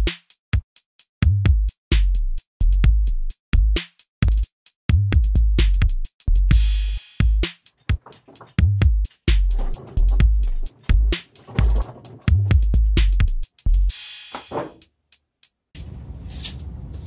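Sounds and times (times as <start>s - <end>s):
electronic music with drum beat: 0.0s - 15.6s.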